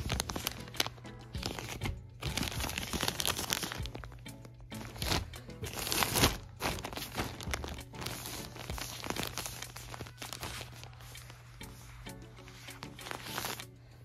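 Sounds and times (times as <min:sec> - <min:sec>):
plastic bags crinkling: 0:00.0 - 0:11.2, 0:12.6 - 0:13.7.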